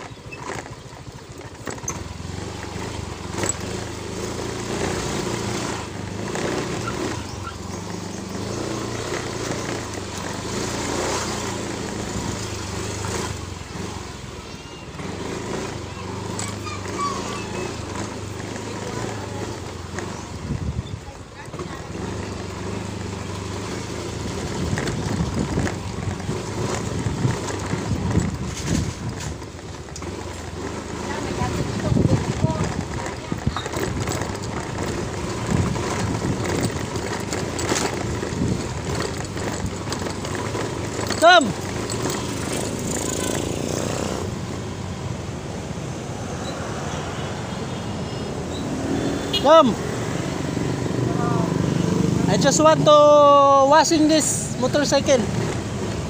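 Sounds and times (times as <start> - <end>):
knocks and rattles from bumps: 0.0 - 44.5, 48.7 - 56.0
motorcycle engine running: 0.0 - 56.0
wind and road noise: 0.0 - 56.0.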